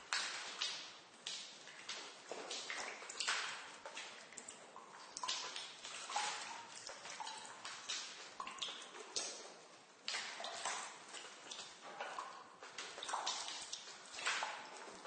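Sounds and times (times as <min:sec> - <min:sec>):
water drops plinking into water: 0:00.0 - 0:14.9.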